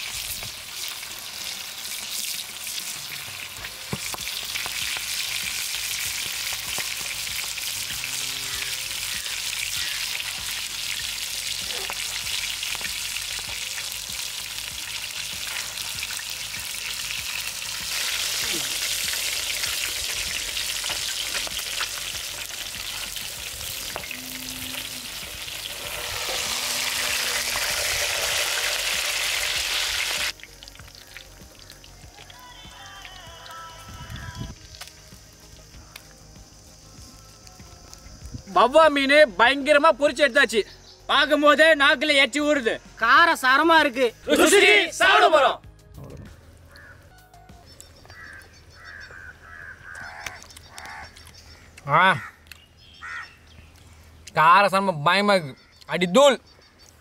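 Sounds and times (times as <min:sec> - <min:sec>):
hot oil sizzling and crackling: 0:00.0 - 0:44.6, 0:47.6 - 0:57.0.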